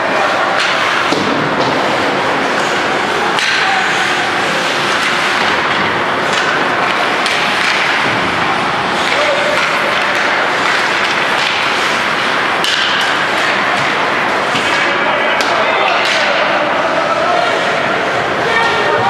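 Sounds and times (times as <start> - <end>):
hockey sticks and puck clacking: 0.0 - 19.0
skates on ice: 0.0 - 19.0.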